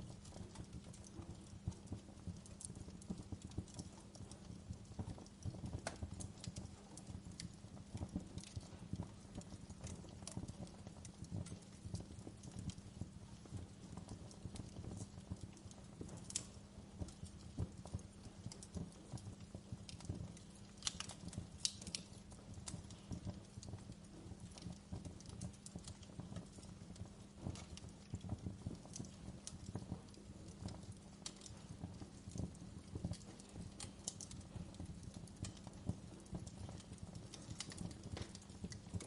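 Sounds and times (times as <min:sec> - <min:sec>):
fire pops: 0:00.0 - 0:39.0
log fire crackling: 0:00.0 - 0:39.0
low rumble of flames: 0:00.0 - 0:39.0.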